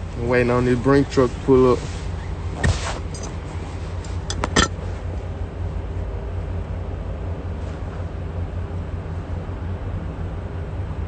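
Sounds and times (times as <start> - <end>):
low rumble inside car cabin: 0.0 - 11.0.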